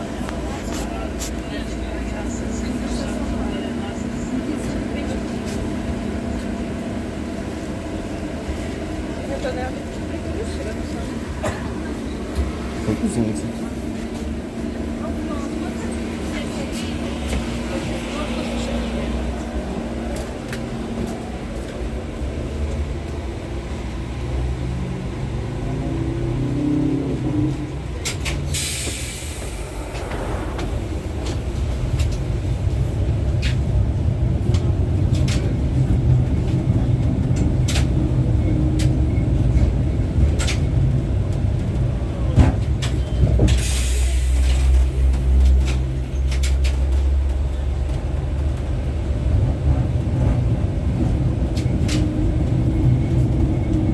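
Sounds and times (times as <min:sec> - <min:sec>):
tram motors and wheels rumbling: 0:00.0 - 0:53.9.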